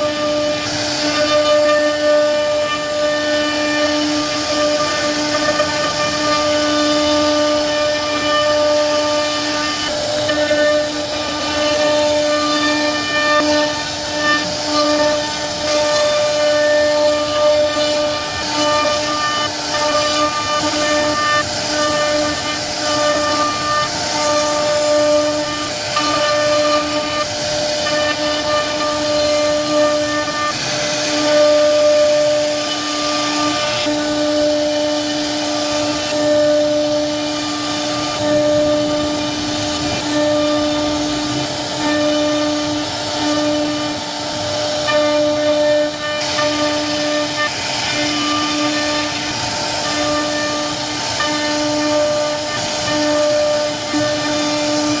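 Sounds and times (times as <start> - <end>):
bit cutting wood hiss: 0.0 - 55.0
router spindle whining: 0.0 - 55.0.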